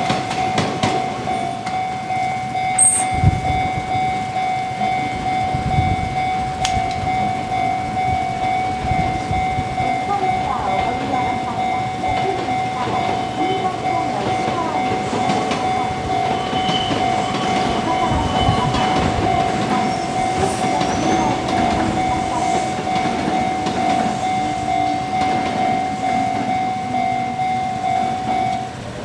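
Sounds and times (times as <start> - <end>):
level-crossing alarm ringing: 0.0 - 29.0
train wheels clacking on rails: 0.0 - 29.0.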